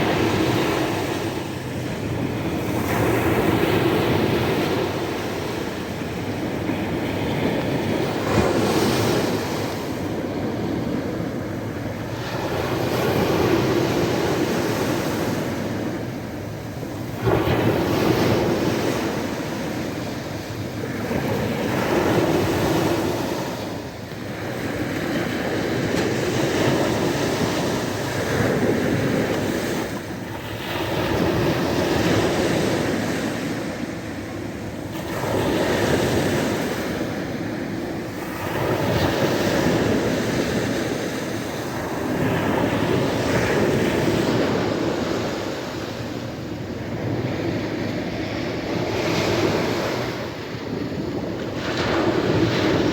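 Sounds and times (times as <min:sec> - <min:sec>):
sea waves breaking on shore: 0:00.0 - 0:52.9.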